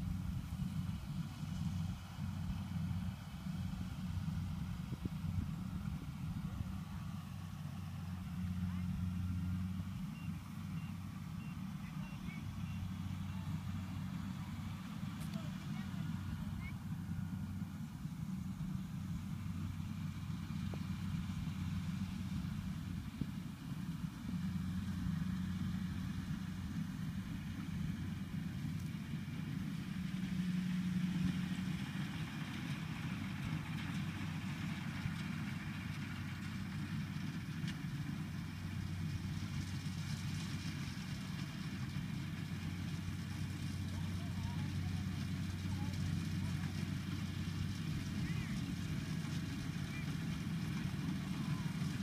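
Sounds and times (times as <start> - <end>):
combine harvester engine running: 0.0 - 52.0.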